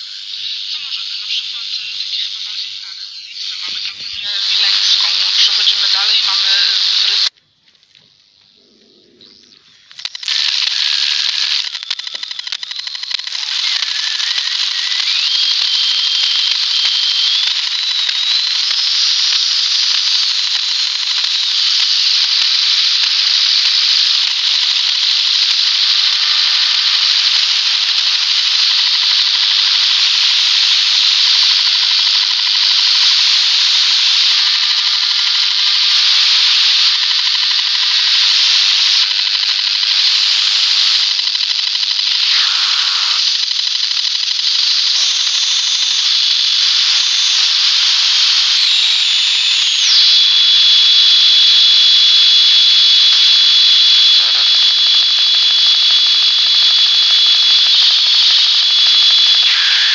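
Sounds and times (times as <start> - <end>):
receiver noise hiss: 0.0 - 59.9.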